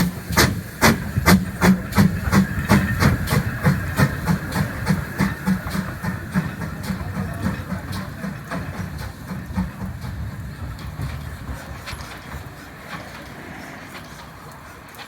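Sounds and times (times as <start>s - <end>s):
steam locomotive exhaust beats: 0.0s - 15.0s.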